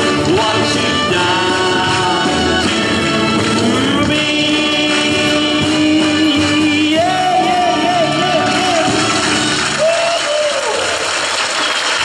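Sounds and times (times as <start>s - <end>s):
several voices singing: 0.0s - 9.8s
instrumental accompaniment: 0.0s - 10.0s.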